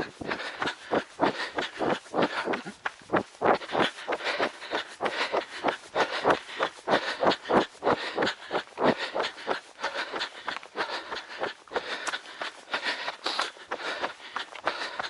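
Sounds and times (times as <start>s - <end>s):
running footsteps on a trail: 0.0s - 15.0s.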